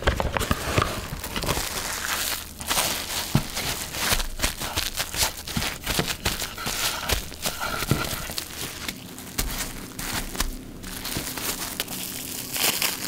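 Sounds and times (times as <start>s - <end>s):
plastic cling wrap crinkling: 0.0s - 13.0s.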